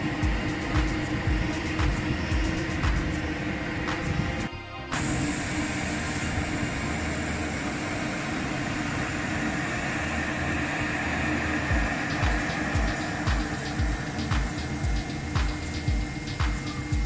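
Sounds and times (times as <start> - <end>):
low hum: 0.0 - 17.0
ventilation blowers whirring: 0.0 - 17.0.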